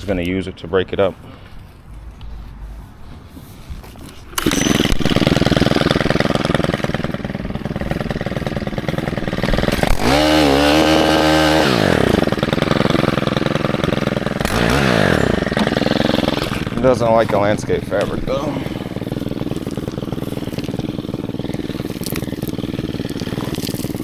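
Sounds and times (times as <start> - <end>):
tines digging rocky soil: 2.3 - 24.0
small engine driving cultivator: 4.1 - 24.0.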